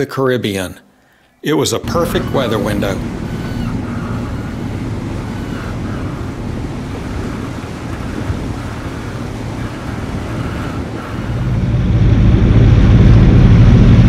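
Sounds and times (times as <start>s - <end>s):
sea washing: 1.8s - 14.0s
wind buffeting microphone: 1.8s - 14.0s.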